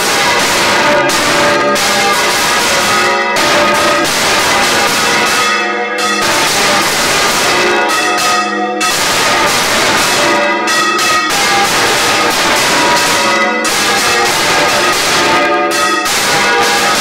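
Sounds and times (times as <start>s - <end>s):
church bells clanging: 0.0s - 17.0s.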